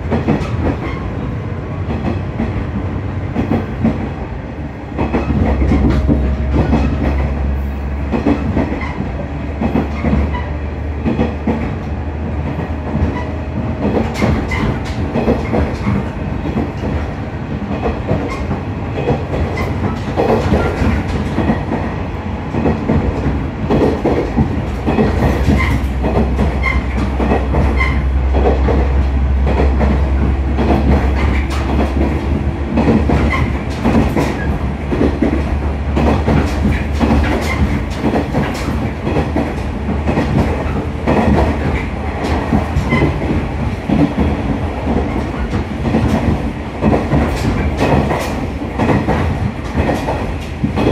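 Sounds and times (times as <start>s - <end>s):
wheels clicking over rail joints: 5.0s - 50.9s.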